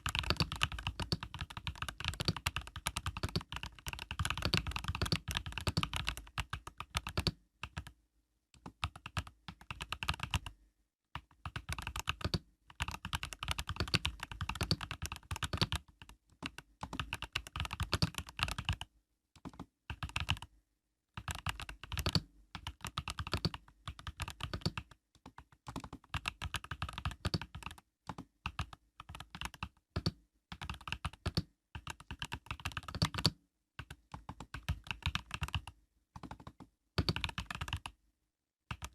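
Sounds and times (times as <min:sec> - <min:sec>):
typing on mechanical keyboard: 0:00.0 - 0:08.0, 0:08.6 - 0:10.6, 0:11.2 - 0:20.5, 0:21.2 - 0:38.0, 0:38.7 - 0:38.9.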